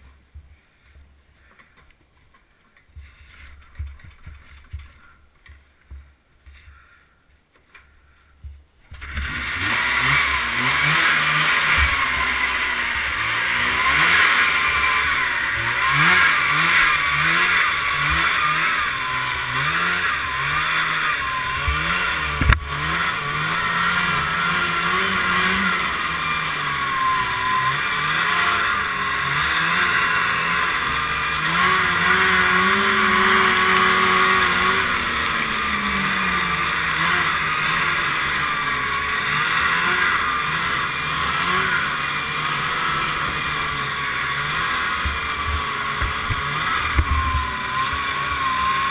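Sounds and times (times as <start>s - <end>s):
snowmobile engine running: 8.9s - 48.9s.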